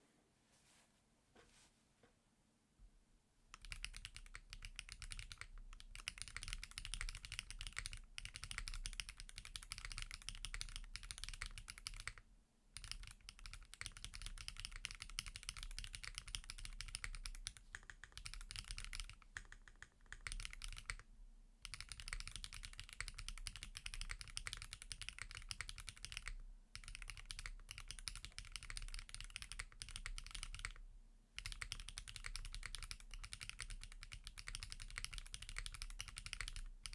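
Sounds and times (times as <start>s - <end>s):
fast typing on mechanical keyboard: 3.6s - 12.2s, 12.8s - 21.0s, 21.6s - 30.8s, 31.4s - 36.9s.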